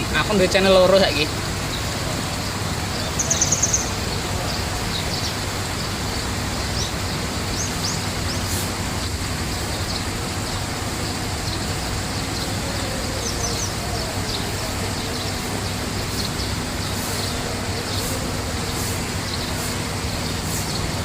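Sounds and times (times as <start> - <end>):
small birds chirping: 0.0 - 21.0
steady rushing noise: 0.0 - 21.0.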